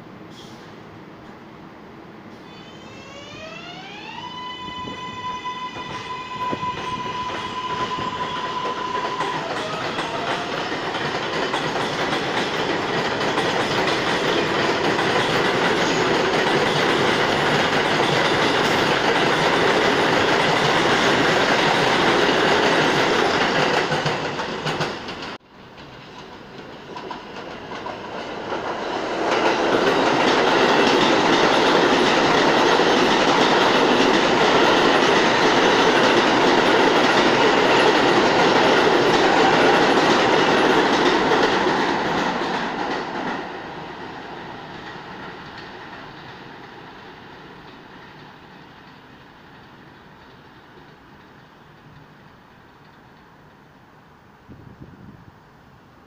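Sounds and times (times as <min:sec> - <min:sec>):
subway train wheels clattering: 0:00.0 - 0:53.8.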